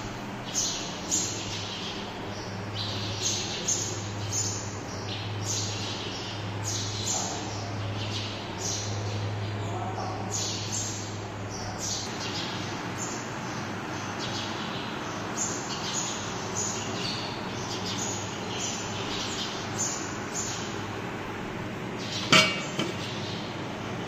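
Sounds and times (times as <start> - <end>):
small birds chirping: 0.0 - 24.0
steady background noise: 0.0 - 24.0.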